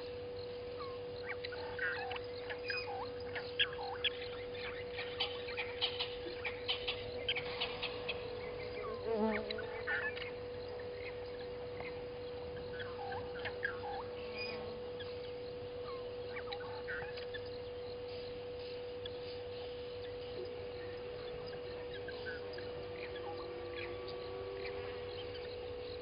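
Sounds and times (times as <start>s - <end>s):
birds chirping and calling: 0.0s - 26.0s
faint steady tone: 0.0s - 26.0s.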